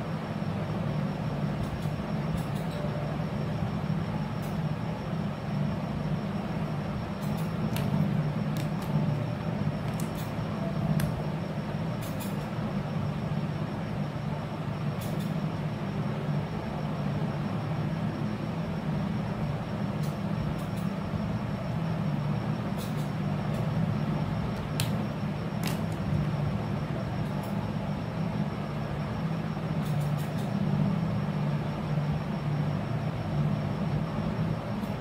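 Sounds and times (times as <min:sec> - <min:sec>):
low rumbling background noise: 0:00.0 - 0:35.0.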